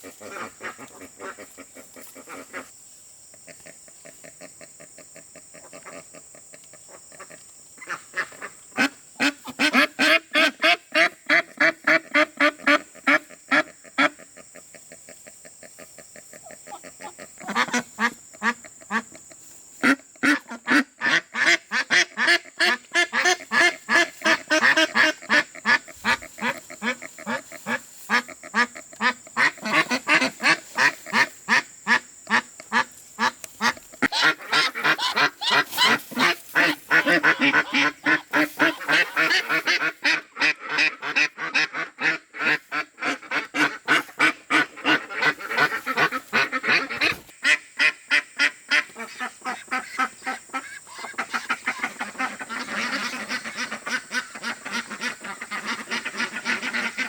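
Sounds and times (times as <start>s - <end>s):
ducks quacking: 0.0s - 2.7s, 3.4s - 57.0s.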